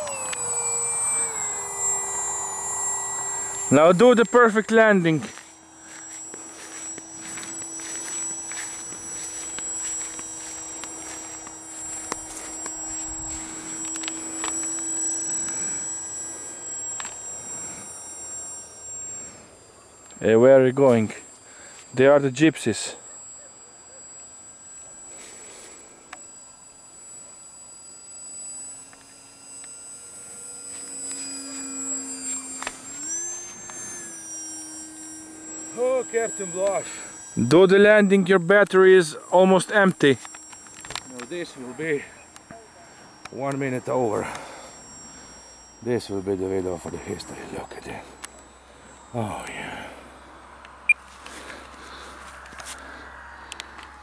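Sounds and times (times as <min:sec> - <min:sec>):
electric fan high-pitched whine: 0:00.0 - 0:54.0.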